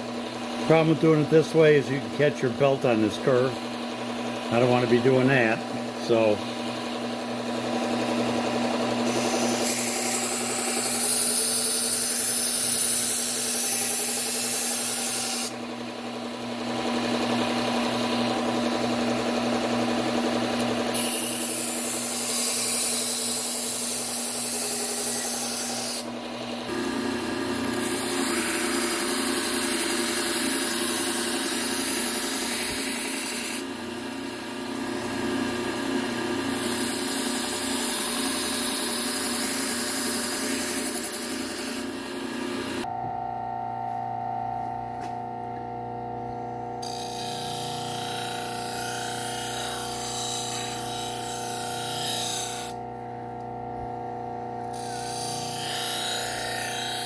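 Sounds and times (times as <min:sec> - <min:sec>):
belt sharpener motor humming: 0:00.0 - 0:57.0.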